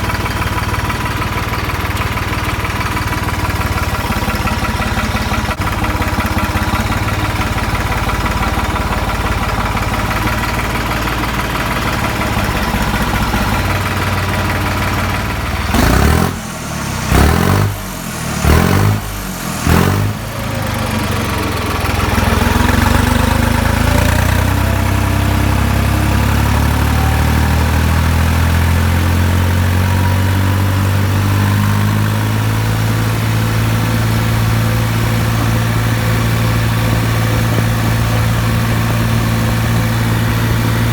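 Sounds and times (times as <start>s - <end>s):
engine revs blipping: 0.0s - 40.9s
tractor diesel engine idling: 0.0s - 40.9s.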